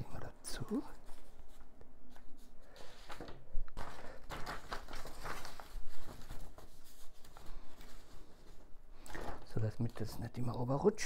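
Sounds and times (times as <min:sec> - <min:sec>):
paper rustling: 0:00.9 - 0:10.2.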